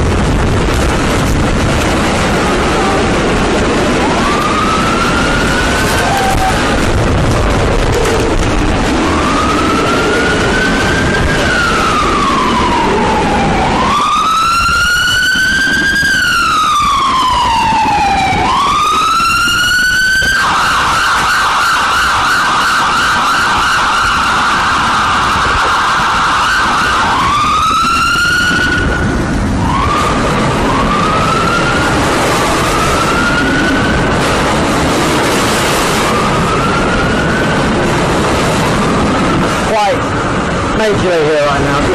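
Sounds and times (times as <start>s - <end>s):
emergency vehicle siren wailing: 0.0s - 41.9s
street noise: 0.0s - 41.9s.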